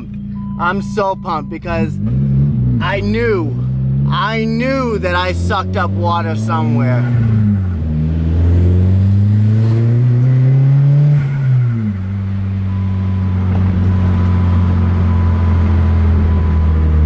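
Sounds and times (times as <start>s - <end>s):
turbocharged car engine running: 0.0s - 17.0s.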